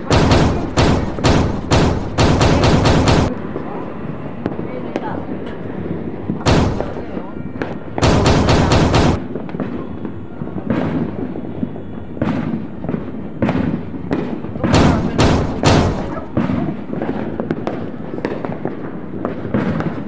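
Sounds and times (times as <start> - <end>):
fireworks bangs: 0.0 - 3.6, 6.3 - 20.0
rumble of distant fireworks: 0.0 - 20.0.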